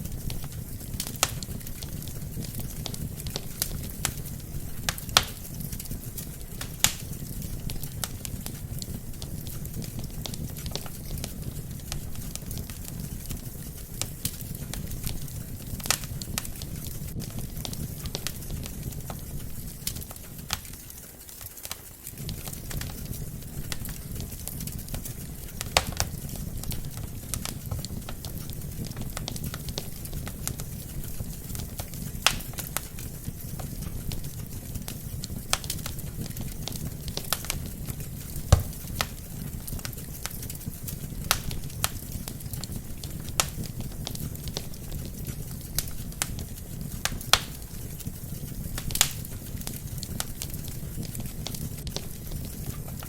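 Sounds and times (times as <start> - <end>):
fire flames rumbling: 0.0 - 53.0
logs crackling and popping: 0.0 - 53.0.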